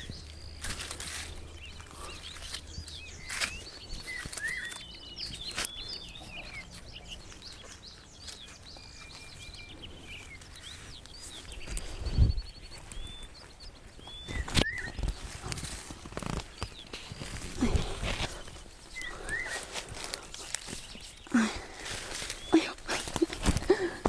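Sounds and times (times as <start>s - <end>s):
small birds chirping and singing: 0.0s - 24.0s.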